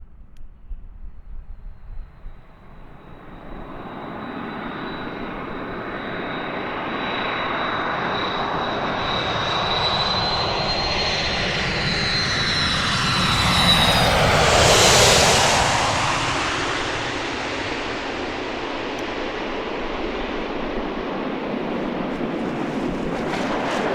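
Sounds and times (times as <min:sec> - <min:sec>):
aircraft rushing noise: 0:01.4 - 0:23.9.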